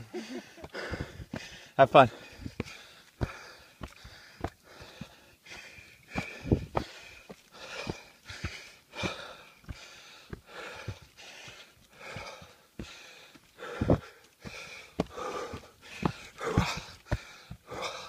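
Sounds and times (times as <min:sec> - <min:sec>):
person panting: 0:00.0 - 0:18.0
footstep thumps: 0:00.6 - 0:01.6, 0:02.3 - 0:05.2, 0:06.1 - 0:13.0, 0:13.7 - 0:18.0.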